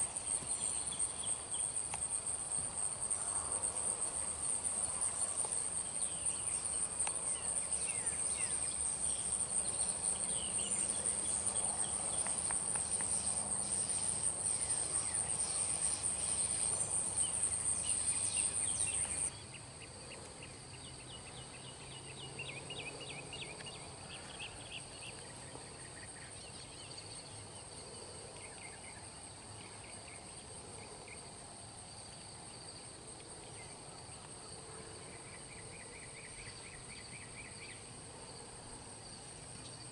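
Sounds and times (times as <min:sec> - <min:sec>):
insect chirps: 0:00.0 - 0:39.9
shrill insect chorus: 0:00.0 - 0:39.9.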